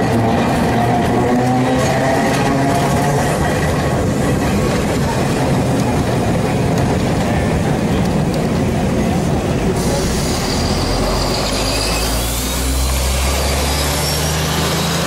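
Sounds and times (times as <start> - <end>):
tram wheels and motors rumbling: 0.0 - 15.0.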